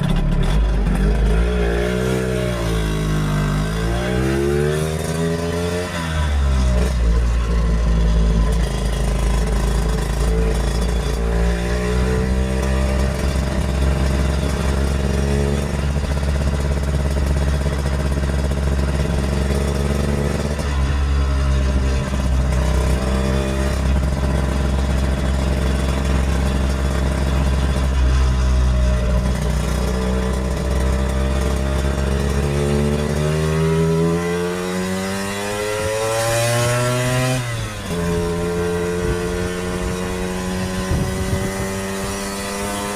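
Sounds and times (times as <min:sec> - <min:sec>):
scooter engine running: 0:00.0 - 0:42.9.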